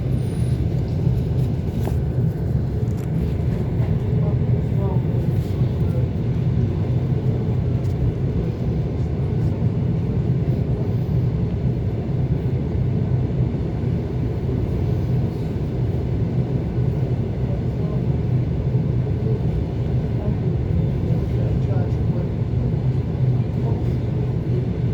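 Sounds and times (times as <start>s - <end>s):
train rumbling on track: 0.0s - 24.9s.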